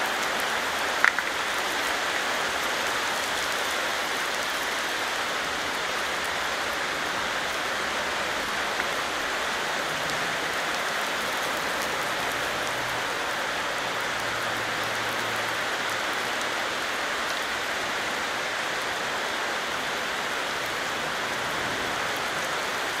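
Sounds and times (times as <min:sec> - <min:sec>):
raindrops pattering: 0:00.0 - 0:23.0
steady rain hissing: 0:00.0 - 0:23.0.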